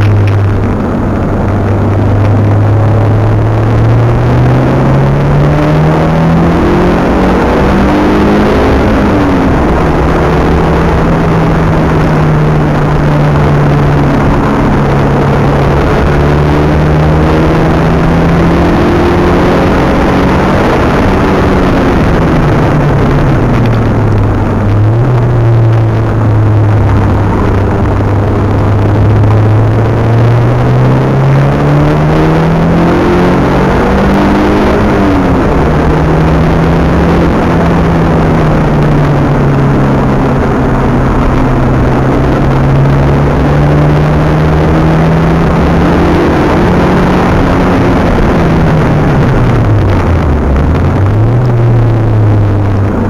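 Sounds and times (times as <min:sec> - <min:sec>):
car engine revving: 0:00.0 - 0:53.0
road and wind noise: 0:00.0 - 0:53.0.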